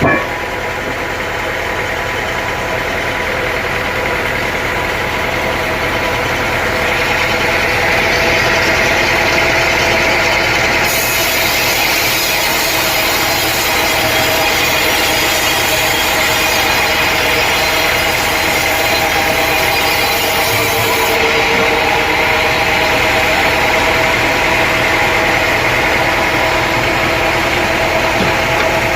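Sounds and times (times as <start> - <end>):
machine drone: 0.0 - 28.9
saw cutting through log: 5.4 - 28.9.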